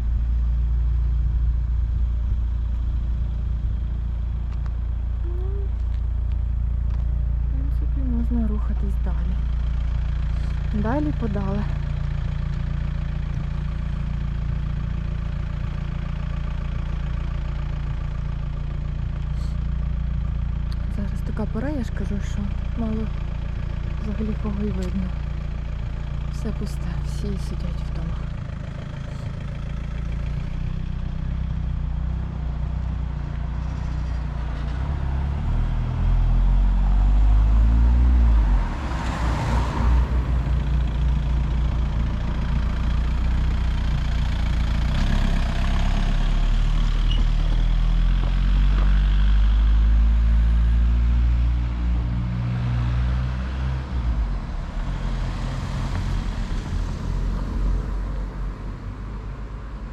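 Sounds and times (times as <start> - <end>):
car engine: 0.0 - 59.9
road noise inside car: 0.0 - 59.9.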